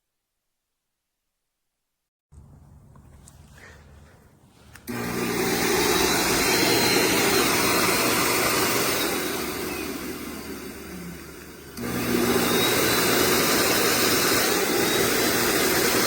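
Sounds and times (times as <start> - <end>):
snow machine blower fan whooshing: 2.3 - 16.0.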